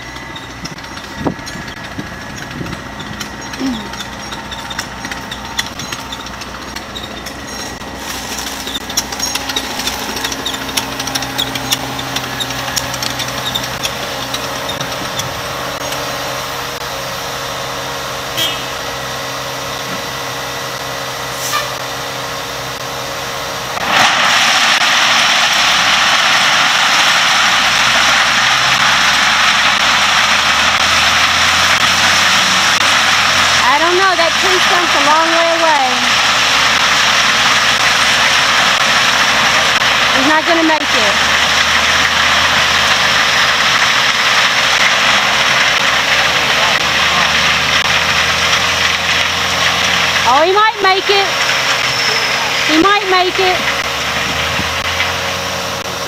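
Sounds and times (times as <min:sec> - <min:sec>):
gravel pouring out: 0:00.0 - 0:56.0
truck and loader engines running: 0:00.0 - 0:56.0.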